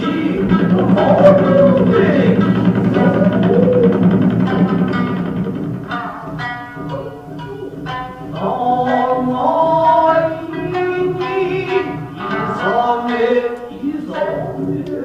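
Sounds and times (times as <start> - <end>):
person singing gliding notes: 0.0 - 4.9, 6.0 - 15.0
plucked strings: 0.0 - 15.0.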